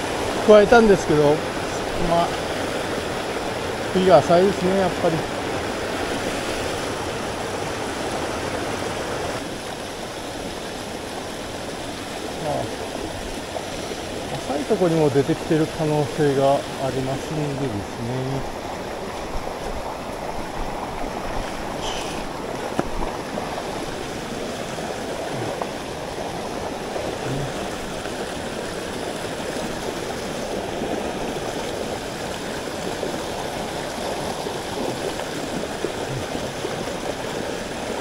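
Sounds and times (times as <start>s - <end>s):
stream rushing over rocks: 0.0s - 38.0s.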